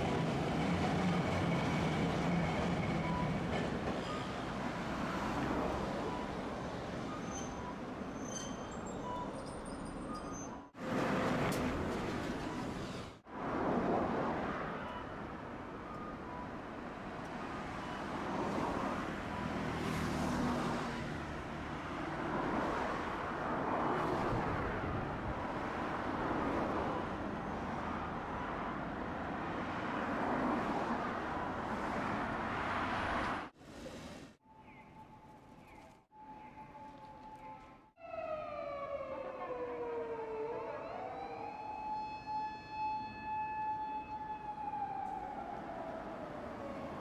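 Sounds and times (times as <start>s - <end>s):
vehicles passing: 9.0s - 47.0s.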